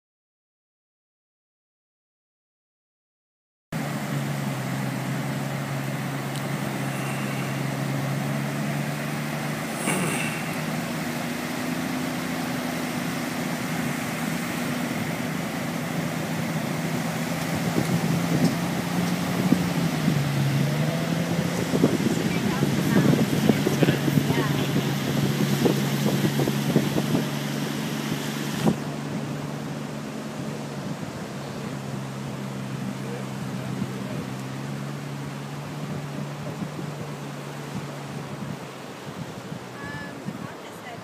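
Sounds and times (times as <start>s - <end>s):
vehicle engine running: 3.8s - 41.0s.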